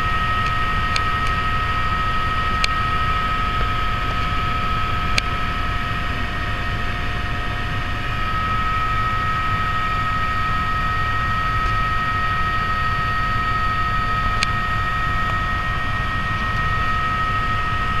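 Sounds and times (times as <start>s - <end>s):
helicopter rotor and engine rumble: 0.0s - 18.0s
high whine: 0.0s - 18.0s.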